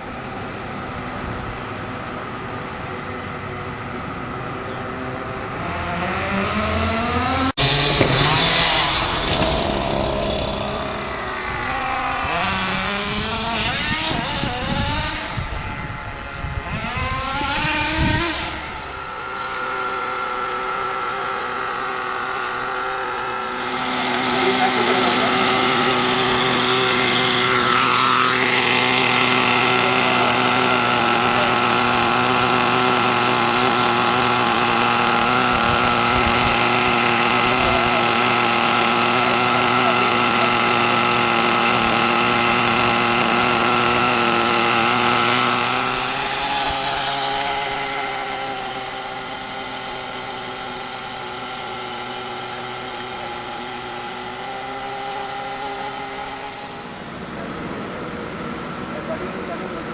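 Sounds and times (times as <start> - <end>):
small single-cylinder engine running: 0.0 - 59.9.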